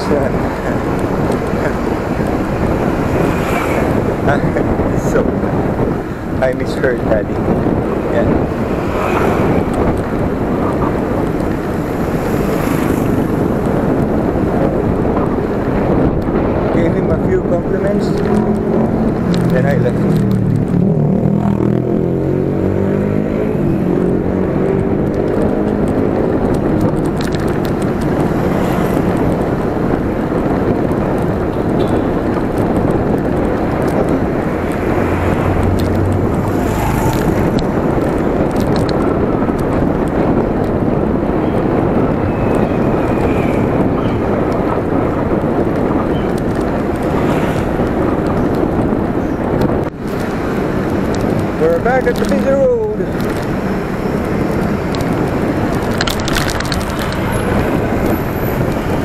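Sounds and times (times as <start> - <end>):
motorcycle passing: 0.0 - 6.4, 7.3 - 14.6, 17.9 - 59.0
car passing: 0.0 - 59.0
street traffic: 0.0 - 59.0
wind noise on microphone: 0.0 - 59.0.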